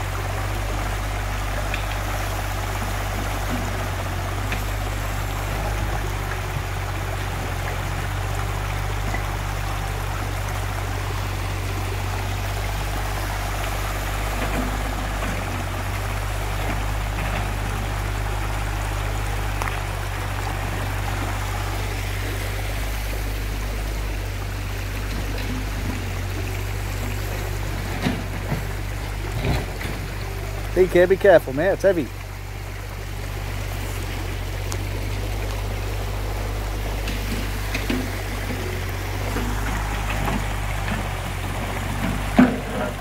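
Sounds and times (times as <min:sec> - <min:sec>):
excavator engine humming: 0:00.0 - 0:43.0
river rushing over rocks: 0:00.0 - 0:43.0.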